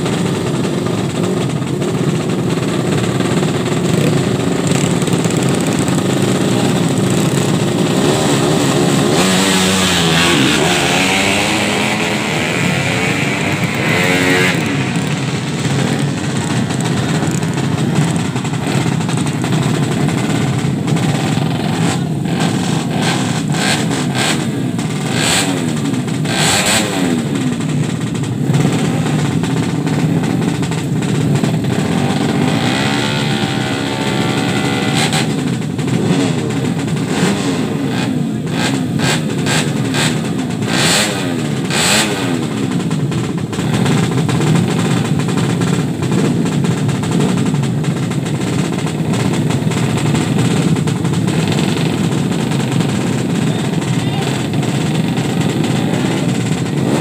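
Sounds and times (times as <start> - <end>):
motorcycle engine revving hard: 0.0 - 57.0
sharp exhaust cracks: 0.0 - 57.0.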